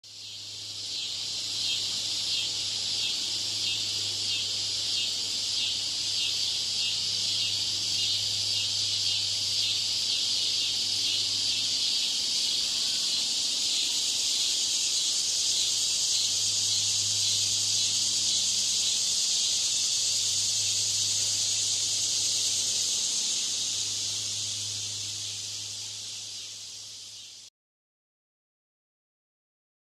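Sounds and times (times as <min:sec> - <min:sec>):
cicada buzzing: 0:00.1 - 0:27.5.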